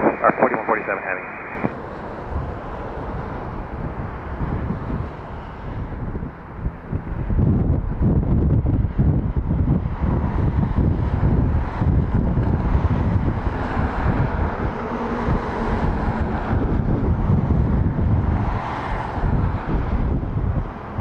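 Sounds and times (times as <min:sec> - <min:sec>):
jet engines roaring: 0:00.0 - 0:21.0
wind buffeting microphone: 0:01.4 - 0:21.0.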